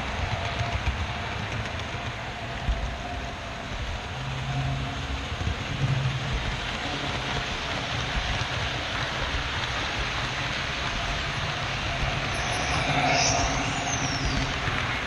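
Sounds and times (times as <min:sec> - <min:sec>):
model train wheels rumbling on rail: 0:00.0 - 0:15.0.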